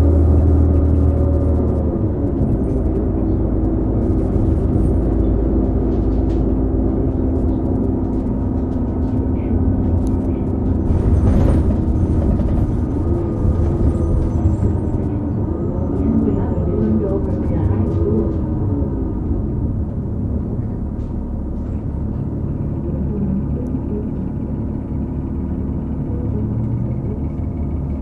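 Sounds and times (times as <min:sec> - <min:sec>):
bus engine rumble: 0:00.0 - 0:28.0
transmission whine: 0:00.0 - 0:28.0.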